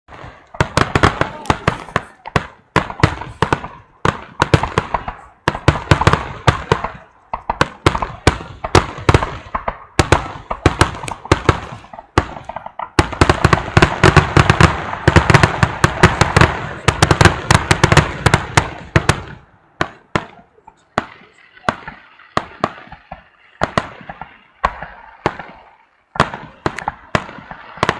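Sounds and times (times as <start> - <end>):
fireworks cracking and banging: 0.1 - 27.9.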